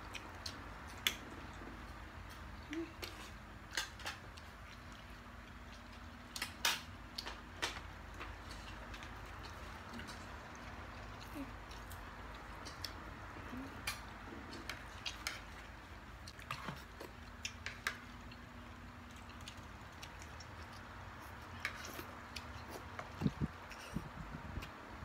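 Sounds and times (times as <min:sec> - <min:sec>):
chewing mouth sounds: 0:00.0 - 0:24.8
faint low hum: 0:00.0 - 0:25.0.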